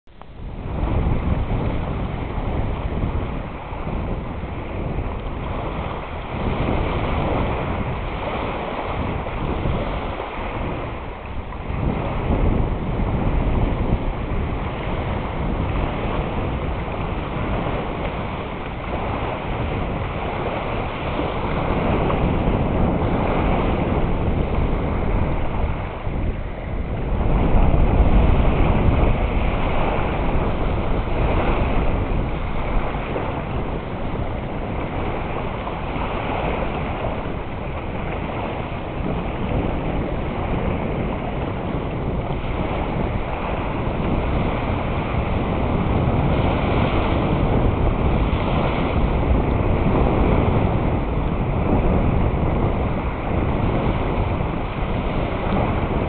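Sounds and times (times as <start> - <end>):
wind buffeting microphone: 0.0 - 56.0
waves washing on water: 0.1 - 56.0.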